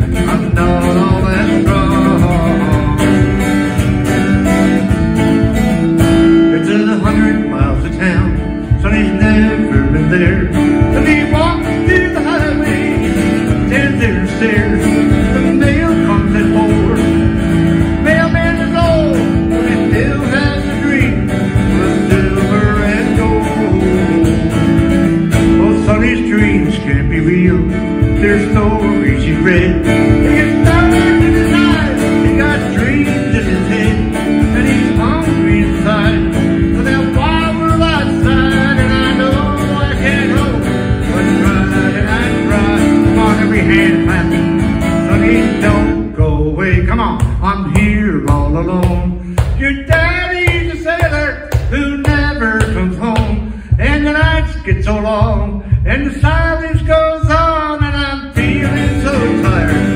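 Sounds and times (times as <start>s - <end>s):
acoustic guitar strumming: 0.0s - 59.9s
man singing folk song: 0.0s - 59.9s.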